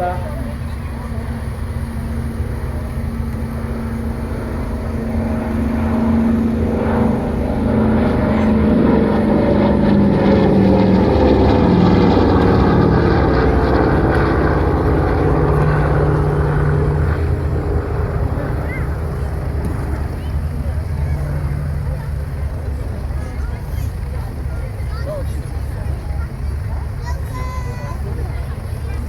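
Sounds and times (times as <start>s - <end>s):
propeller aircraft flying past: 0.0s - 29.0s.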